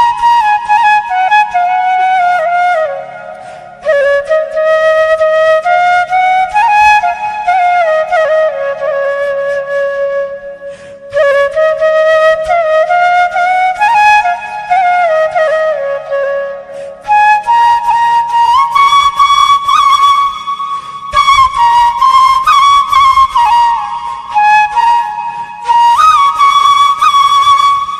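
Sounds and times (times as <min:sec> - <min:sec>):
bamboo flute folk melody: 0:00.0 - 0:27.9.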